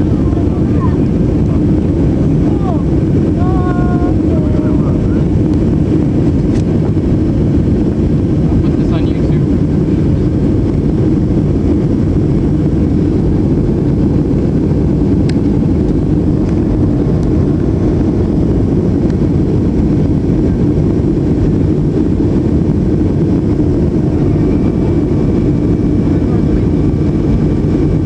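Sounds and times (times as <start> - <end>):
jet engine cabin rumble: 0.0 - 28.0.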